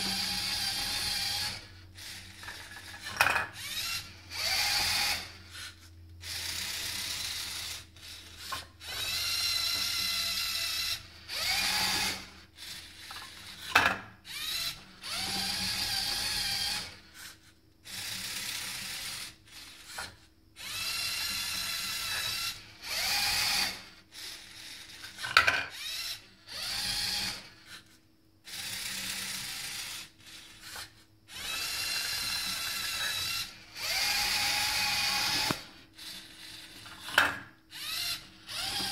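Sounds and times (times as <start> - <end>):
servo motors whirring: 0.0 - 13.7, 14.3 - 27.9, 28.5 - 38.9.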